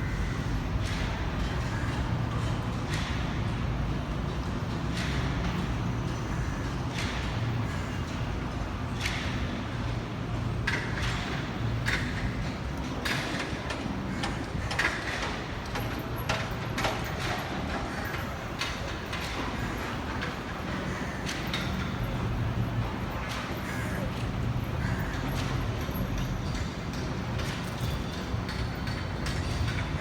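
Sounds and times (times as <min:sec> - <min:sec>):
low city street rumble: 0:00.0 - 0:30.0.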